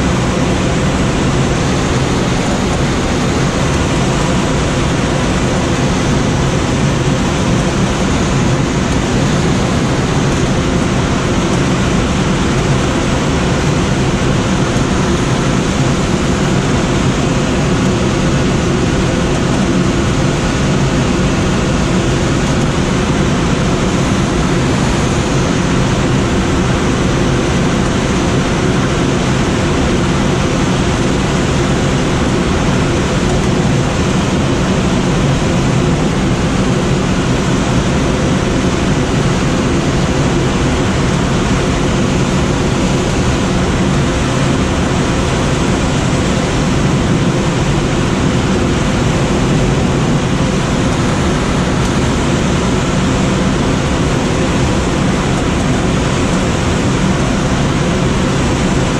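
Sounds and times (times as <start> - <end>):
rush of air in glider cockpit: 0.0 - 58.9.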